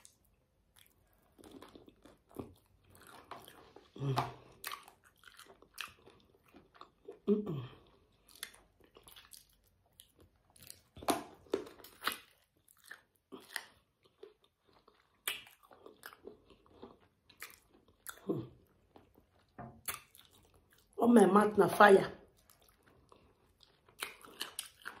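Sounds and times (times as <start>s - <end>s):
crunchy chewing and biting: 0.0s - 20.9s, 22.4s - 25.0s.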